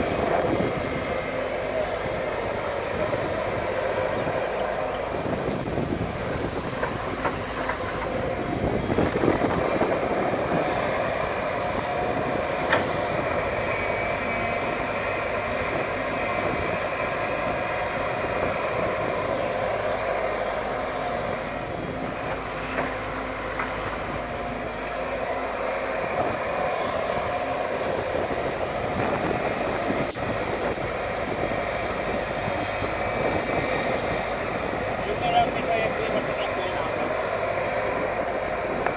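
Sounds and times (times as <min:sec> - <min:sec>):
excavator diesel engine running: 0:00.0 - 0:38.9
thin steady whine: 0:00.0 - 0:38.9.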